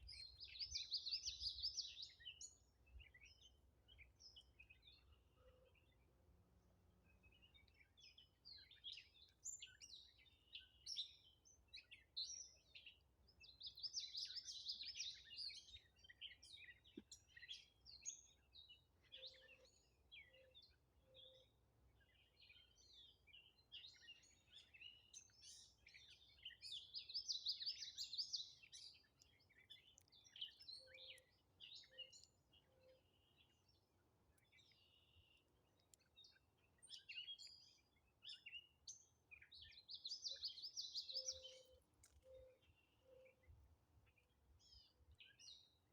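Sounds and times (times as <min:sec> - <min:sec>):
birds chirping and trilling: 0:00.0 - 0:06.1, 0:07.0 - 0:45.8.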